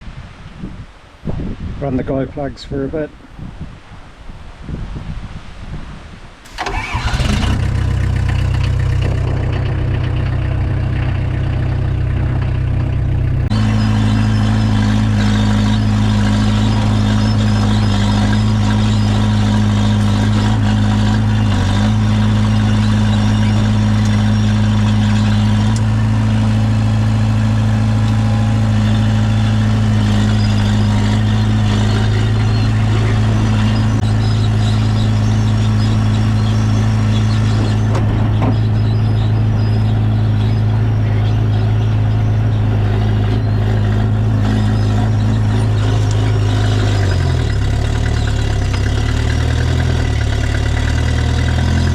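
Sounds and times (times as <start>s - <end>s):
bulldozer diesel engine running: 6.5s - 51.9s.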